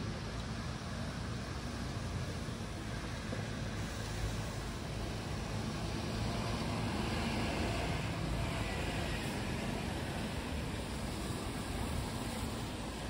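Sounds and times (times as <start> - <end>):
cars passing on wet road: 0.0 - 13.0.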